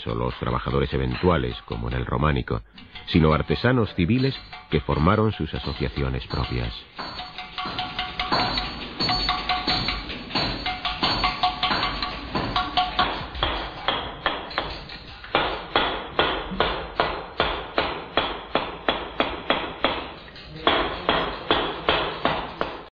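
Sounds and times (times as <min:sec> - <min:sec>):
hammer striking chisel on stone: 0:04.1 - 0:22.9.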